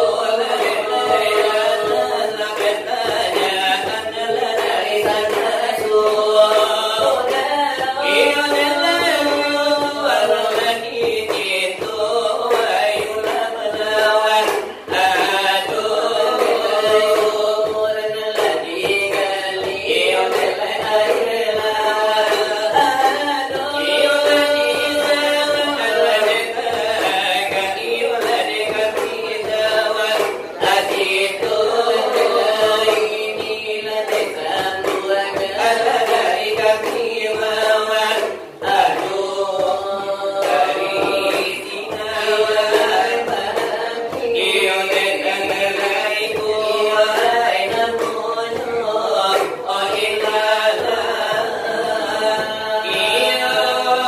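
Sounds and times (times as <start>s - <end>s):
devotional verses chanted: 0.0s - 54.0s.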